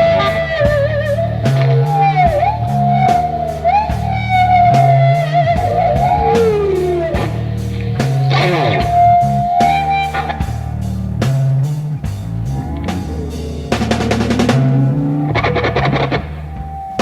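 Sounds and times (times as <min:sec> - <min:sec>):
drums and bass: 0:00.0 - 0:17.0
electric guitar lead bending: 0:00.0 - 0:17.0.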